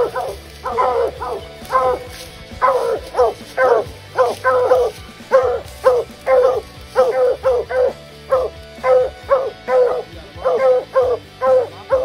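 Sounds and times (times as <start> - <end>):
hound barking: 0.0 - 12.0.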